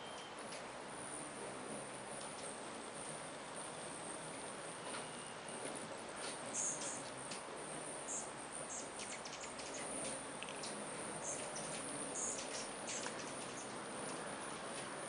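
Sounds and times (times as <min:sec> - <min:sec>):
hummingbird chips and trills: 0:00.0 - 0:15.0
hummingbird wings humming: 0:00.0 - 0:15.0.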